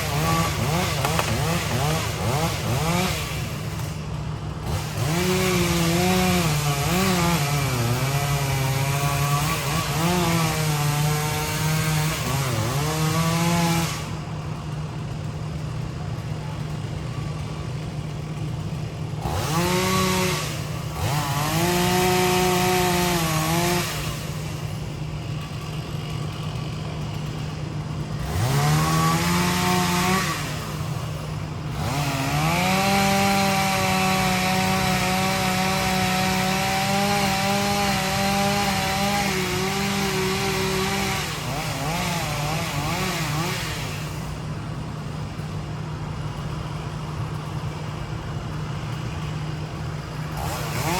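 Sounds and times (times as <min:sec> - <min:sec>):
chainsaw revving: 0:00.0 - 0:50.9
excavator diesel engine: 0:00.0 - 0:50.9.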